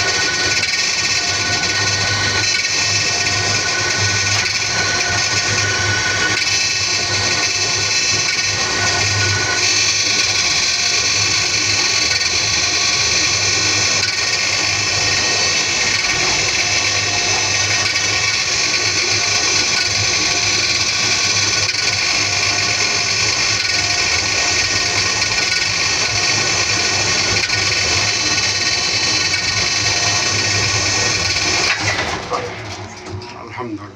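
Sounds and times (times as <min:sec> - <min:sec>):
elevator mechanical drone and whine: 0:00.0 - 0:33.9.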